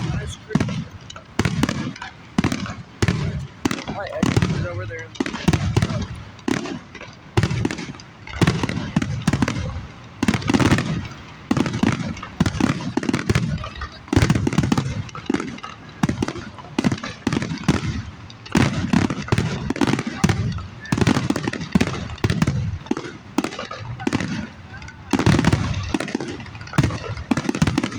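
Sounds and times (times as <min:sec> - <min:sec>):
fireworks booming: 0:00.0 - 0:27.9
fireworks crackling: 0:00.0 - 0:27.9.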